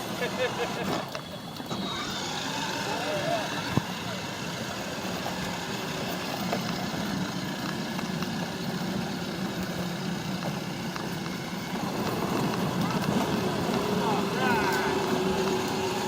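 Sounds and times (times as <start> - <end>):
toy truck motor hum: 0.0 - 16.0.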